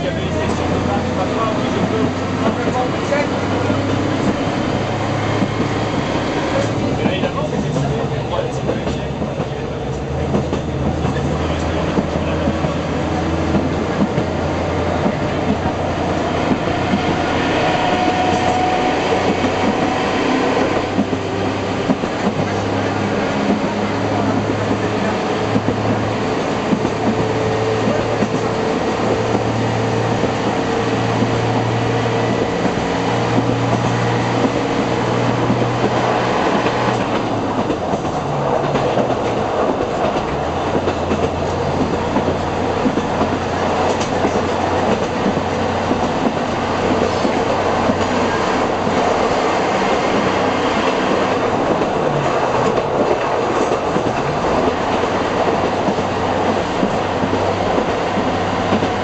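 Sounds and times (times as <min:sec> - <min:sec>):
diesel engine hum: 0:00.0 - 0:59.0.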